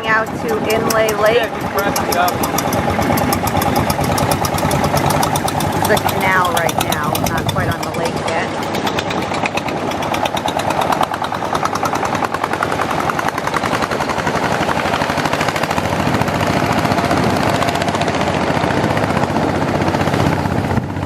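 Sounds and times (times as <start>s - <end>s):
unmuffled boat engine rattling: 0.0s - 21.0s.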